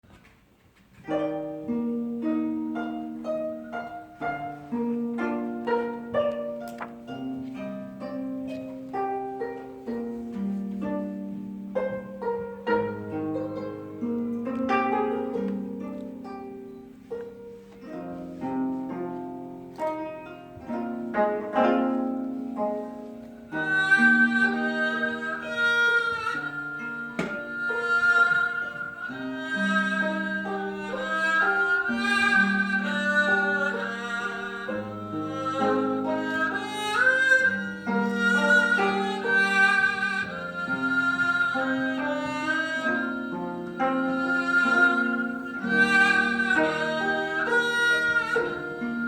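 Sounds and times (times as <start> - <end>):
bowed string melody: 0.9 - 49.0
plucked zither melody: 0.9 - 49.0.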